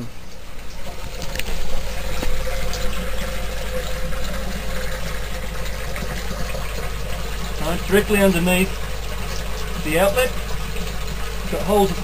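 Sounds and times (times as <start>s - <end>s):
water running and gurgling: 0.0s - 12.0s.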